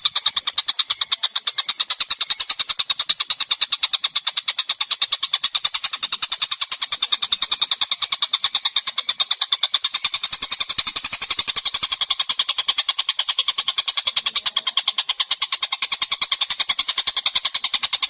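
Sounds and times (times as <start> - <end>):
bird chirping rapidly: 0.0 - 18.0.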